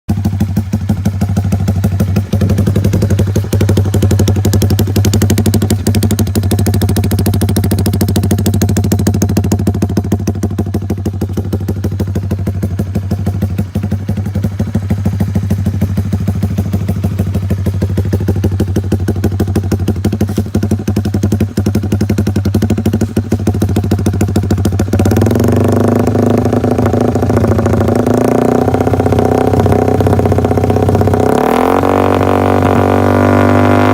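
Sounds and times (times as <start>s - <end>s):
motorcycle engine pulsing exhaust: 0.1s - 33.9s.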